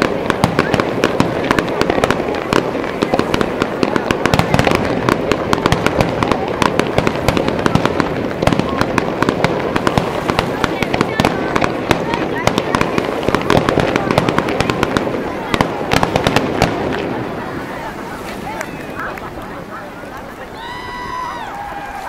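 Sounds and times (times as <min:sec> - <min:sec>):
fireworks popping and crackling: 0:00.0 - 0:22.0.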